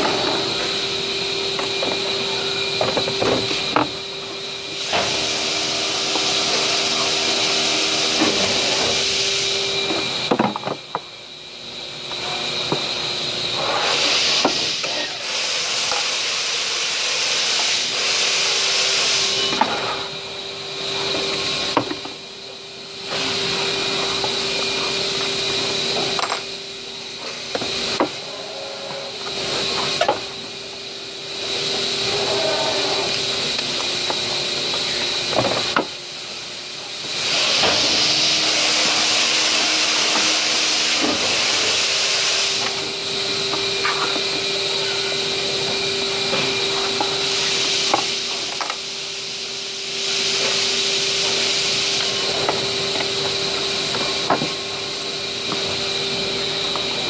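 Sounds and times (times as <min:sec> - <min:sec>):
loud steady hiss: 0:00.0 - 0:28.3, 0:29.1 - 0:57.0.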